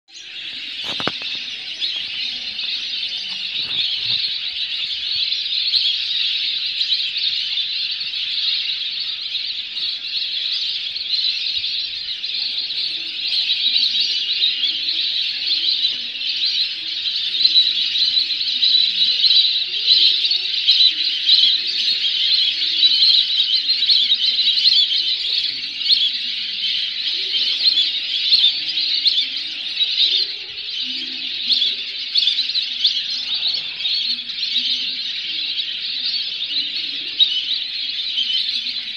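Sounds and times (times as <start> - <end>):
flock of waterbirds calling: 0.1 - 38.9.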